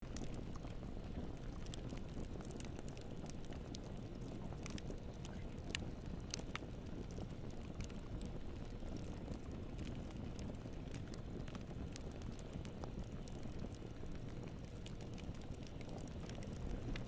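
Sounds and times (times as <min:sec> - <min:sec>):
low rumble of burning: 0:00.0 - 0:17.0
wood fire pops and snaps: 0:00.0 - 0:17.0.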